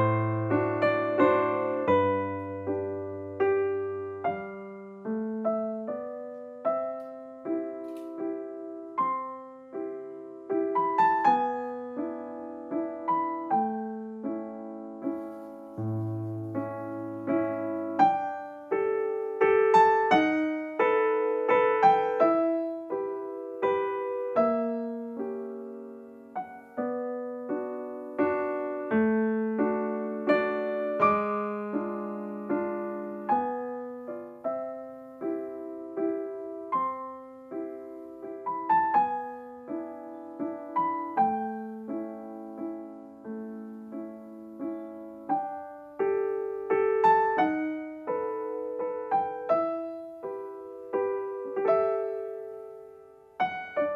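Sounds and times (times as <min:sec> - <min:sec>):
slow solo piano melody: 0:00.0 - 0:53.9.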